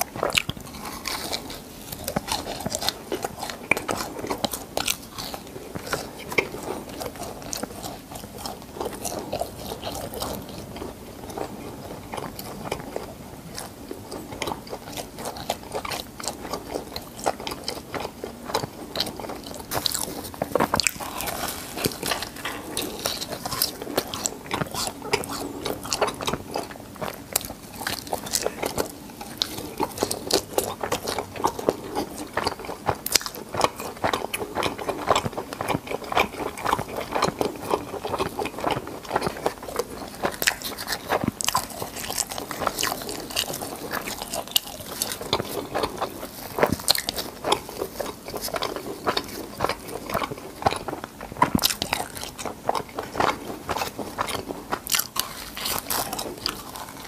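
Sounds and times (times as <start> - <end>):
crunchy chewing of fried snacks: 0.0 - 57.0.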